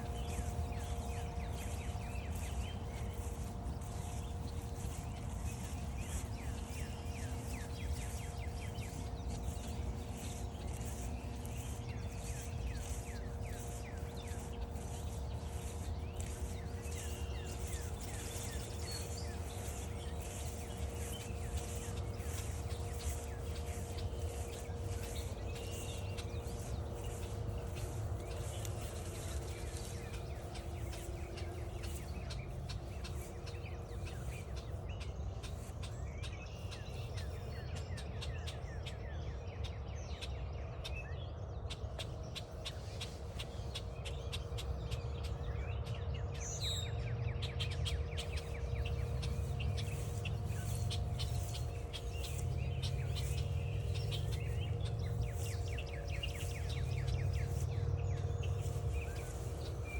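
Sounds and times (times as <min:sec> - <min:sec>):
fine ticks: 0:00.0 - 0:36.0, 0:47.6 - 0:59.9
steady low rumble: 0:00.0 - 0:39.0, 0:42.0 - 0:59.9
faint hum: 0:00.0 - 0:59.9
small birds chirping: 0:00.0 - 0:59.9.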